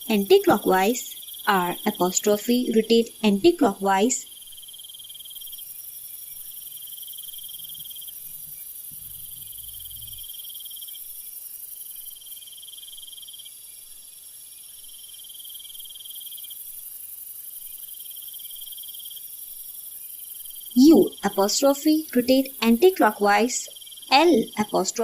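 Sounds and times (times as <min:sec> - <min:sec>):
high-pitched insect hiss: 0:00.0 - 0:03.2, 0:04.1 - 0:25.0
crickets chirping in trills: 0:00.0 - 0:25.0.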